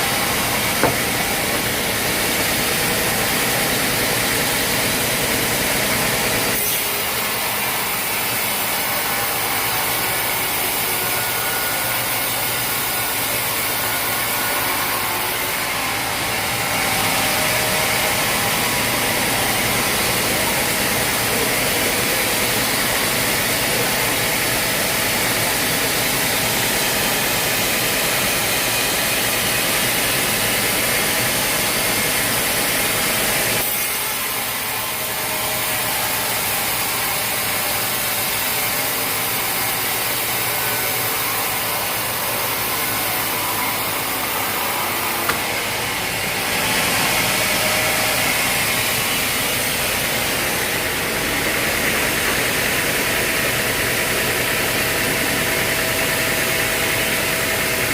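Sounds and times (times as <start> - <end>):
saw cutting timber: 0.0 - 57.9.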